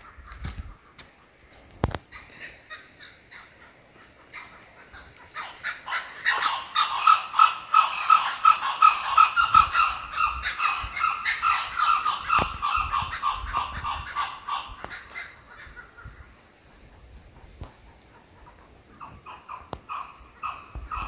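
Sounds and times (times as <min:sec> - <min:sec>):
kookaburra calling: 0:00.0 - 0:17.0, 0:17.9 - 0:21.0.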